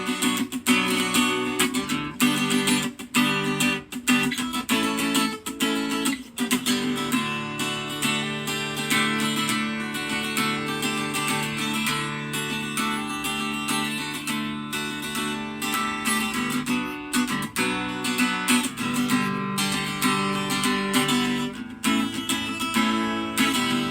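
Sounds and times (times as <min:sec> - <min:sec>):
acoustic guitar strummed in chords: 0:00.0 - 0:23.9.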